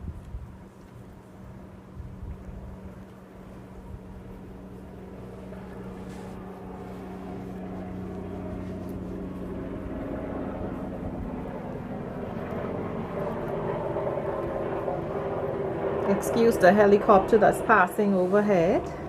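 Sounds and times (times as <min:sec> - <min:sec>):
helicopter passing overhead: 0:00.0 - 0:19.0.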